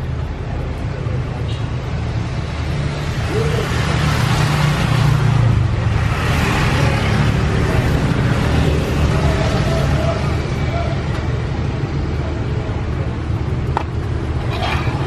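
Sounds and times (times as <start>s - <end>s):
street traffic rumble: 0.0s - 15.0s
vehicles passing: 0.0s - 15.0s.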